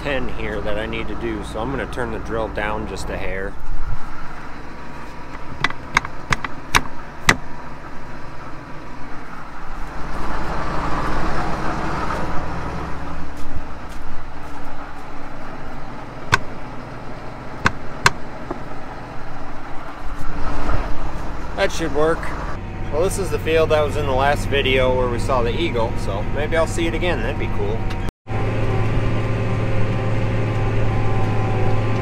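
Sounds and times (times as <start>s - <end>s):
tractor diesel engine idling: 0.0s - 31.6s.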